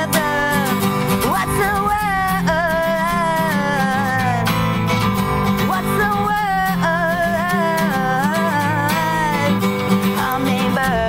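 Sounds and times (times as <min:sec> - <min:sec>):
acoustic guitar strumming: 0:00.0 - 0:11.0
woman singing: 0:00.0 - 0:11.0.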